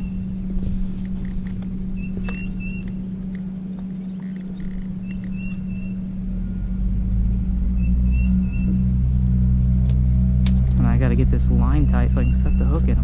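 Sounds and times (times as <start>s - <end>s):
low rumble: 0.0s - 13.0s
steady low hum: 0.0s - 13.0s.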